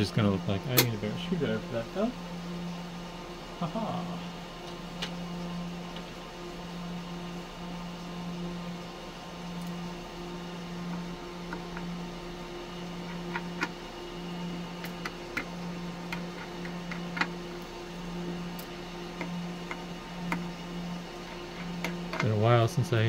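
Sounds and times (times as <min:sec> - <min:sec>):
wavering low hum: 0:00.0 - 0:23.0.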